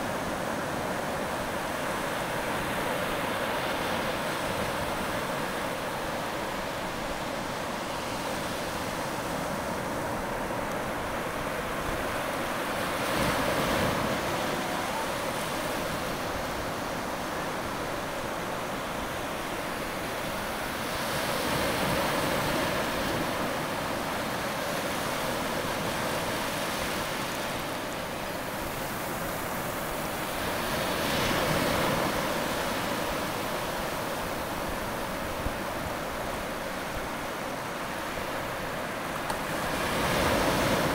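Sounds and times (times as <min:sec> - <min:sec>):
waves washing over sand: 0:00.0 - 0:40.9.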